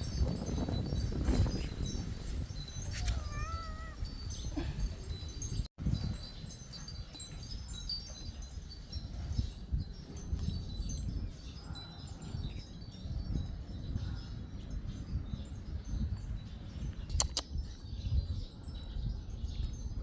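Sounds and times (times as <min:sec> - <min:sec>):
wind chimes tinkling: 0:00.0 - 0:20.0.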